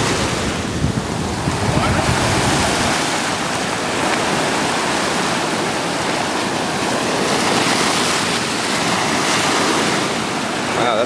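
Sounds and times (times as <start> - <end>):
ocean surf over rocks: 0.0 - 11.0.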